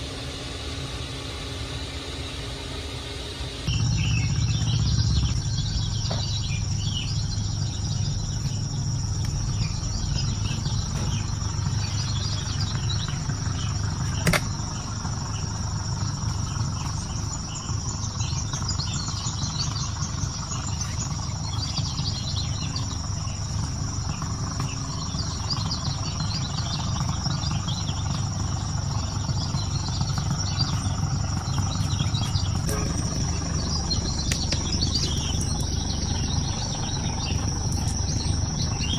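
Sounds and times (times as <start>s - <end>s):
crickets trilling: 0.0s - 38.9s
low steady rumble: 0.0s - 38.9s.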